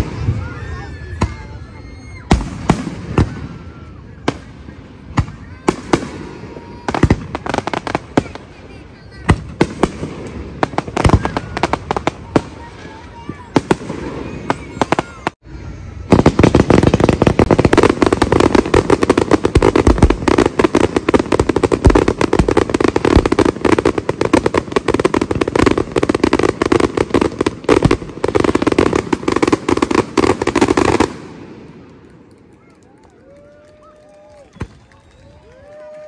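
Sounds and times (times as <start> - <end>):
fireworks barrage: 0.0 - 36.0.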